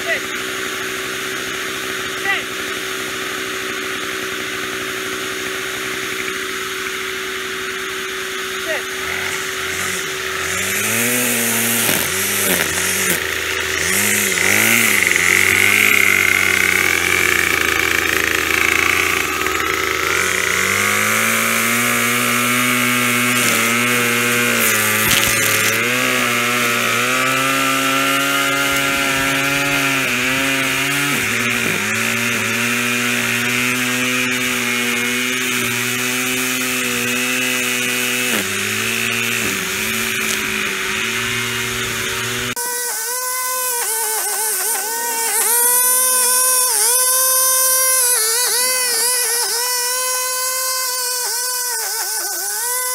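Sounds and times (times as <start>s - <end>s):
shop vacuum humming: 0.0s - 52.9s
string trimmer engine running: 0.0s - 52.9s.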